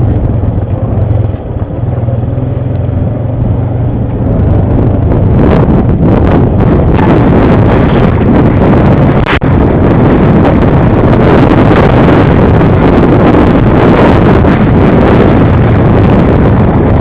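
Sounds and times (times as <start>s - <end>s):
atv engine rumble: 0.0s - 17.0s
wind buffeting microphone: 0.0s - 17.0s.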